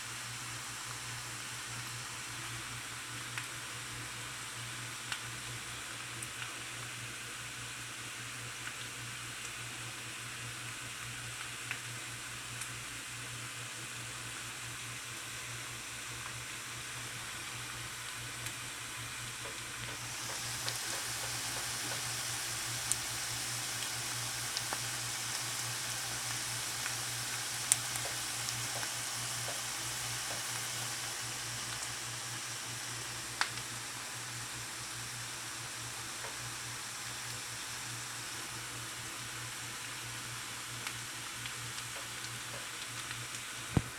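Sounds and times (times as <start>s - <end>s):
food sizzling in a frying pan: 0.0s - 43.9s.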